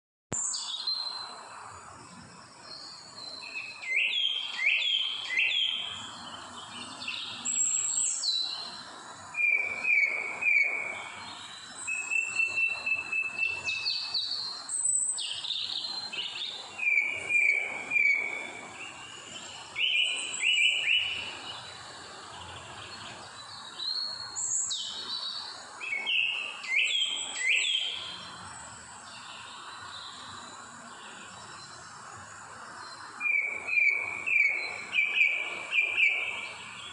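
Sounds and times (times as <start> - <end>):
birds singing: 0.3 - 36.9
steady background hiss: 0.4 - 36.9.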